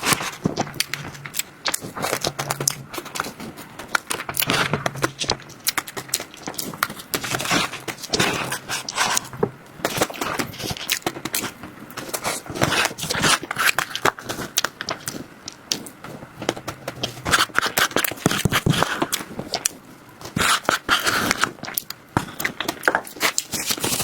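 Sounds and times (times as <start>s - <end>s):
chewing food close up: 0.0s - 24.0s
mouth clicks and crackles: 0.0s - 24.0s.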